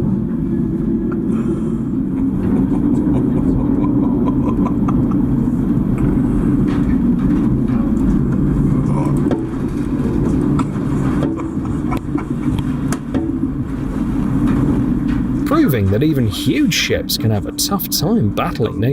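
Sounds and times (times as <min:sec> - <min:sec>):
ship engines droning: 0:00.0 - 0:18.9.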